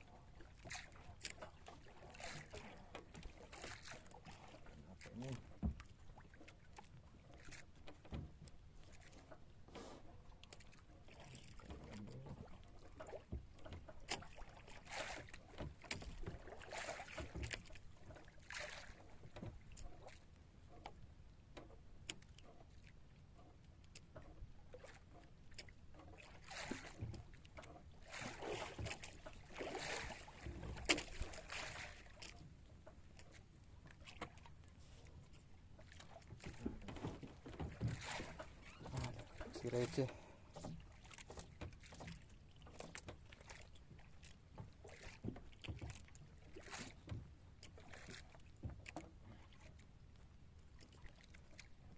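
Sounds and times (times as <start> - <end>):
water washing against boat: 0.0 - 21.0, 23.9 - 51.9.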